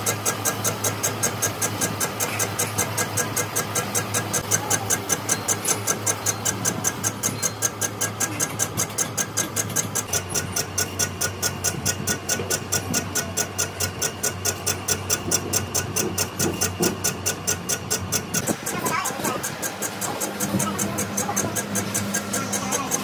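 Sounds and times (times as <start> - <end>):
machine tool humming: 0.0 - 23.0
rapid even ticking of cutter: 0.0 - 23.0.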